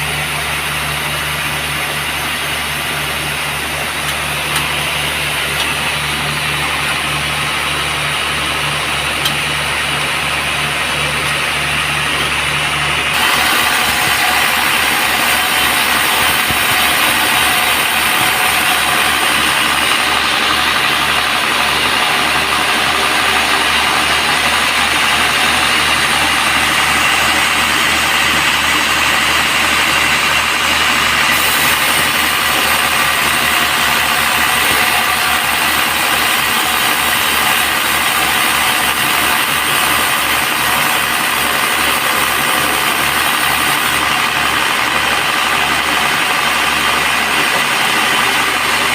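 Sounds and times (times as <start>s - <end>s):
band sawmill running: 0.0s - 48.9s.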